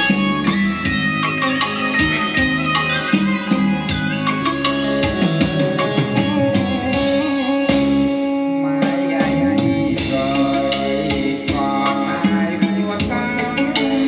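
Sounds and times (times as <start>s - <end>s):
plucked string instrument music: 0.0s - 14.0s.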